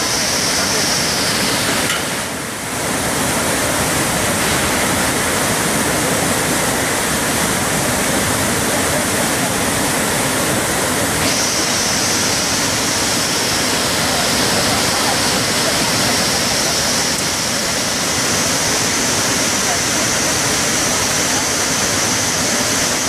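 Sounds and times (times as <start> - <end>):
floodwater rushing over rocks: 0.0 - 23.0.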